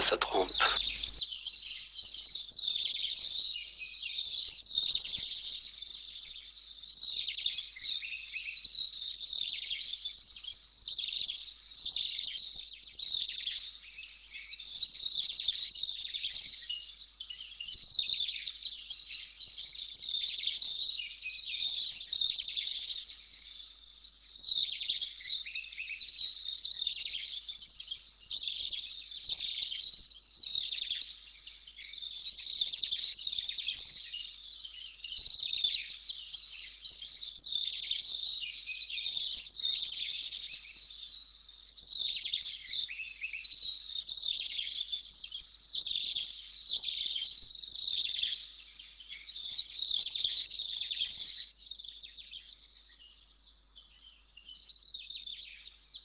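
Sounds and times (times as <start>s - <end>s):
birds chirping and twittering: 0.0s - 12.2s, 12.9s - 56.0s.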